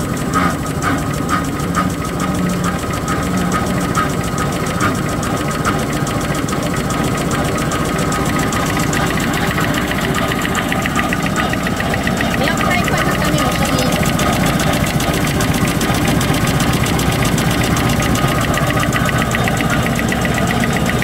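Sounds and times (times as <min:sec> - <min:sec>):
machine mechanical clatter: 0:00.0 - 0:21.0.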